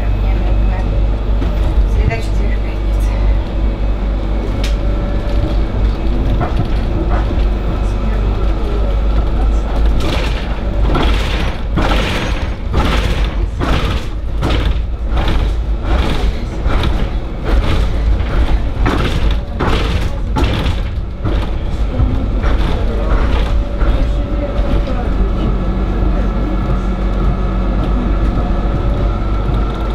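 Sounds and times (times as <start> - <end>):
rhythmic thumps of tram wheels: 0.0 - 29.9
tram rumbling on track: 0.0 - 29.9.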